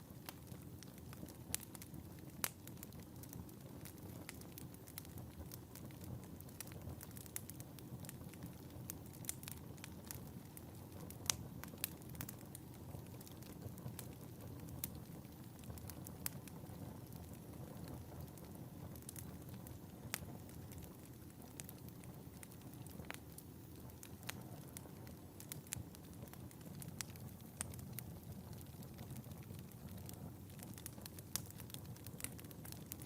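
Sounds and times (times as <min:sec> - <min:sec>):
fire crackles and pops: 0:00.0 - 0:33.0
fireplace fire rushing: 0:00.0 - 0:33.0.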